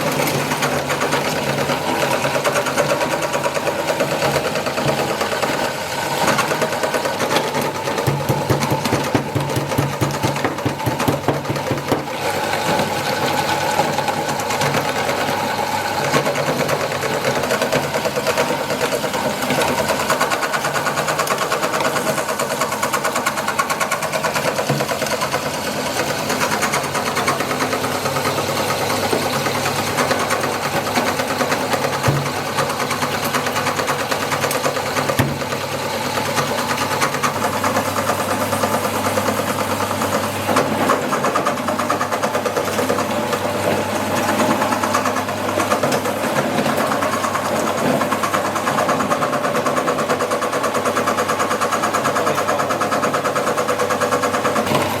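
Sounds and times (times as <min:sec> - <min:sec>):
meat grinder running: 0:00.0 - 0:55.0.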